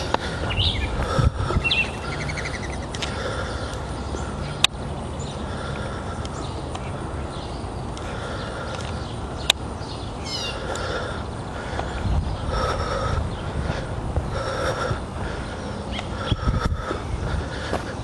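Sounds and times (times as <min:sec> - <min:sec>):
birds chirping: 0:00.0 - 0:18.0
low steady rumble: 0:00.0 - 0:18.0.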